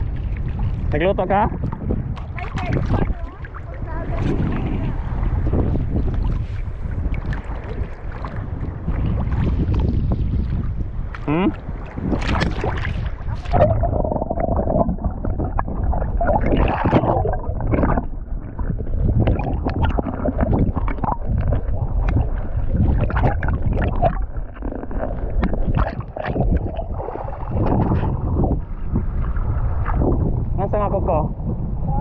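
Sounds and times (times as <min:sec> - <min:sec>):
underwater rumbling and gurgling: 0:00.0 - 0:32.0.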